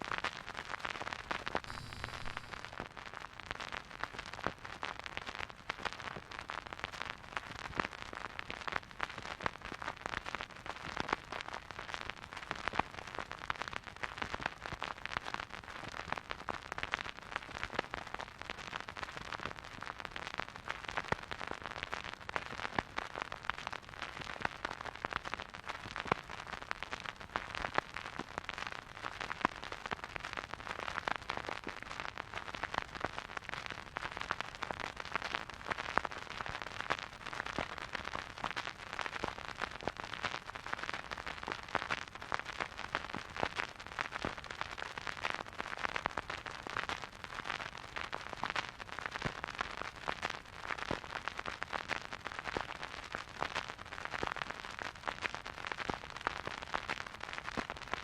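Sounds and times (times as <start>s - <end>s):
soft record hiss: 0.0s - 58.0s
vinyl crackle and pops: 0.0s - 58.0s.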